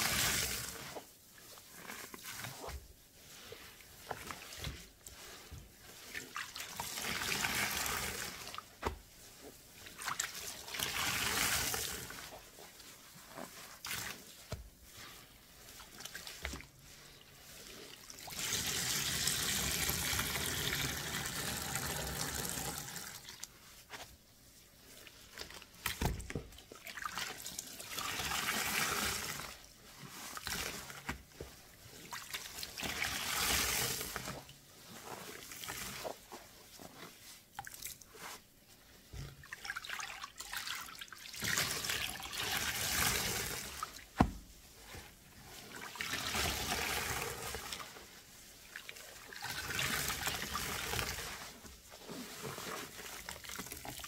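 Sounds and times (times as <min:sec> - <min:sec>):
soapy lather being worked: 0:00.0 - 0:54.0
soapy water trickling and pouring: 0:00.0 - 0:54.0.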